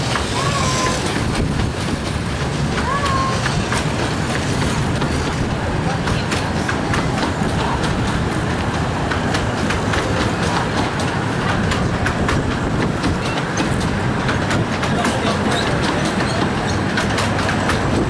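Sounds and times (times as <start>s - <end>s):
train coaches rumbling past: 0.0s - 18.0s
wheels clicking over rail joints: 0.0s - 18.0s.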